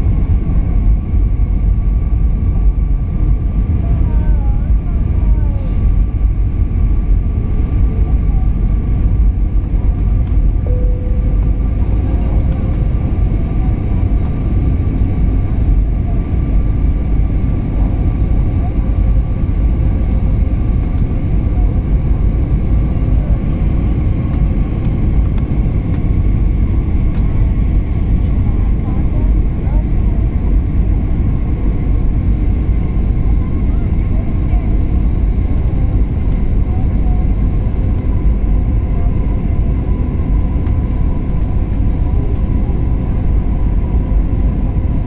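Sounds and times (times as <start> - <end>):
engine rumble and rushing air: 0.0 - 45.0
faint steady whine: 0.0 - 45.0.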